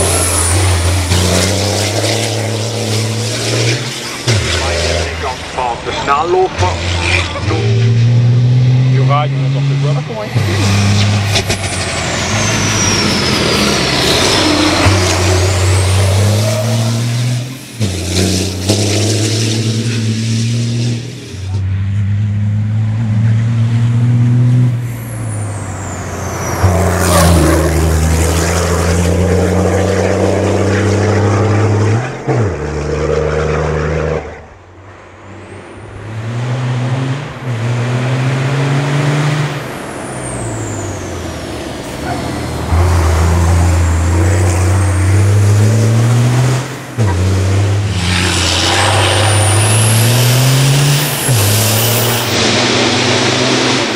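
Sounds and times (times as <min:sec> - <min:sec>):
diesel truck engine pulling hard: 0:00.0 - 0:53.9.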